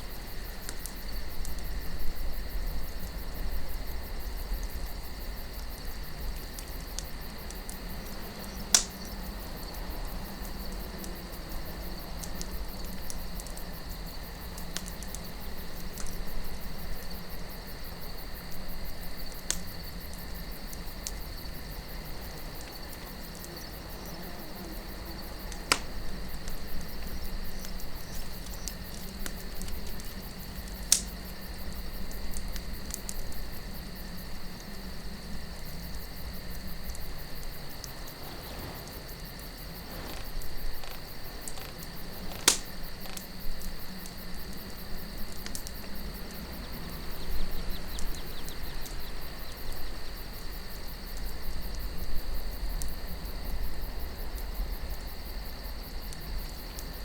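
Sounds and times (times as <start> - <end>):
campfire crackling: 0.0 - 57.0
crickets chirping: 0.0 - 57.0
low wind rumble: 0.0 - 57.0.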